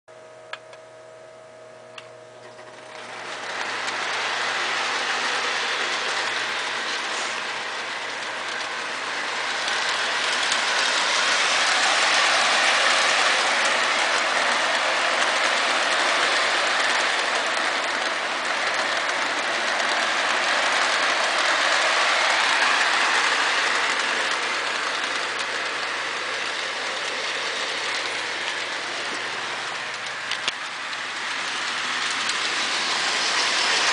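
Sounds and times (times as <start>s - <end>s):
model train rolling on metal track: 2.4s - 33.9s.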